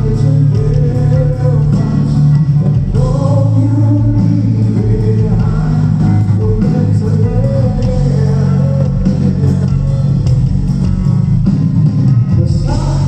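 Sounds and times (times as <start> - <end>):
live rock band instrumental: 0.0 - 13.0.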